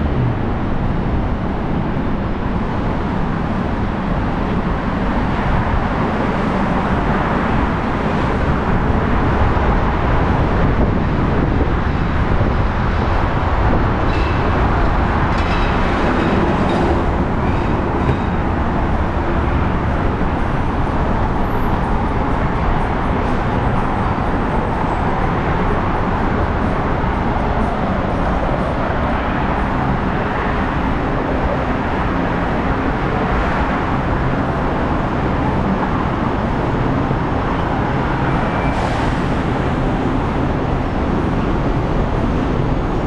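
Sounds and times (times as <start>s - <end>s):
vehicle running noise: 0.0s - 43.0s.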